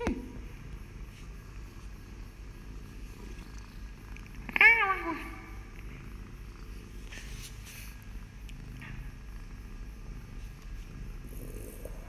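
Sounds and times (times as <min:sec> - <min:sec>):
kitten purring: 0:00.9 - 0:12.0.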